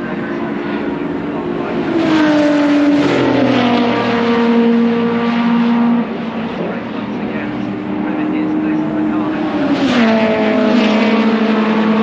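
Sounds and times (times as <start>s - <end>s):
race cars passing: 0.0s - 12.0s.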